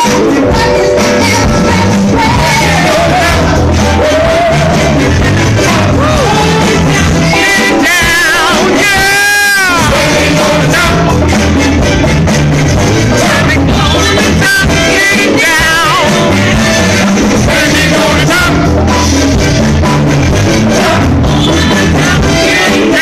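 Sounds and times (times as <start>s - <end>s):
bass notes: 0.0s - 23.0s
drums: 0.0s - 23.0s
singers with wide vibrato: 0.0s - 23.0s.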